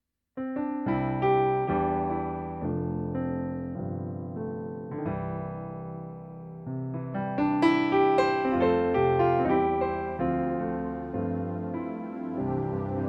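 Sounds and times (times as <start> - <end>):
piano chords on keyboard: 0.4 - 13.0.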